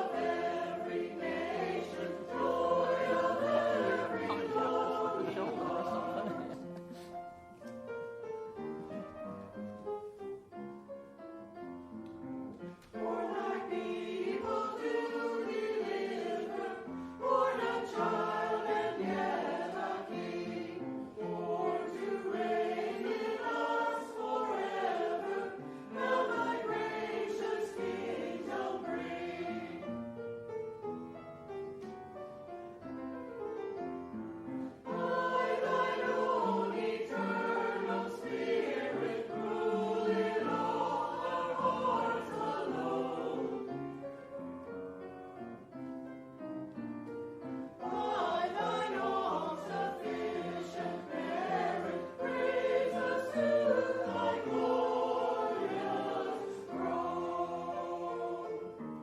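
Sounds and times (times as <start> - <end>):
choir singing: 0.0 - 10.1, 12.6 - 30.5, 32.8 - 44.9, 46.6 - 59.0.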